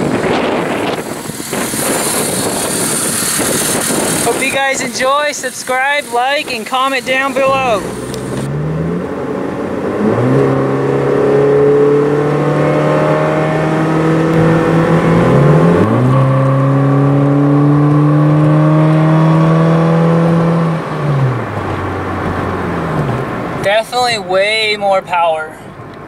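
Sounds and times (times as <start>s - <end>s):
car engine exhaust accelerating: 0.0s - 24.6s.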